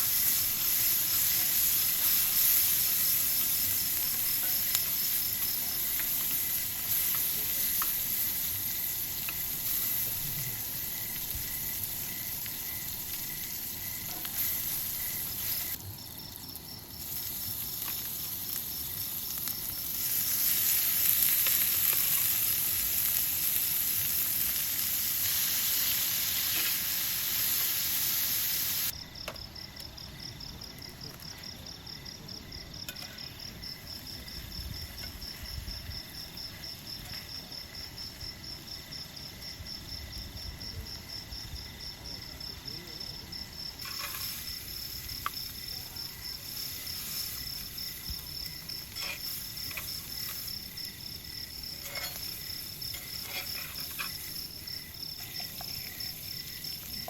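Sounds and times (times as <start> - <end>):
high sizzling hiss: 0.0 - 29.0, 32.8 - 57.0
crickets chirping: 0.0 - 57.0.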